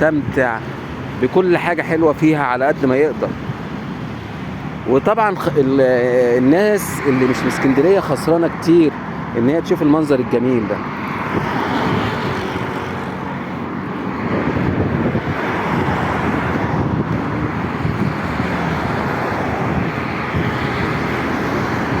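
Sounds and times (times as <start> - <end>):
road and traffic noise: 0.0 - 22.0.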